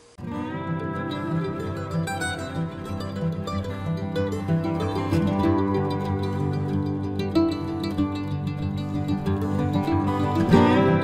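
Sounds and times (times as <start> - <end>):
instrumental music with plucked strings: 0.2 - 11.0.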